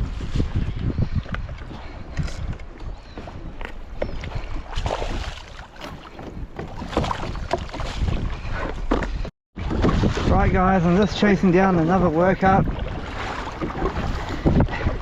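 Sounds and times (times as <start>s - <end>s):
water splashing and sloshing: 0.0s - 15.0s
wind rumbling on microphone: 0.0s - 15.0s.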